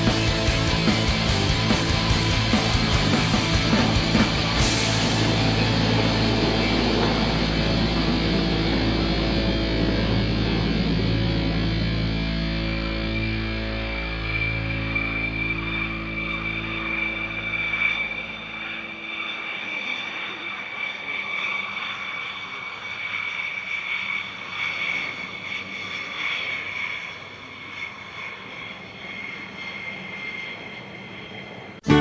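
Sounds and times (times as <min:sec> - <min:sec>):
jet engines whining and roaring: 0:00.0 - 0:31.9.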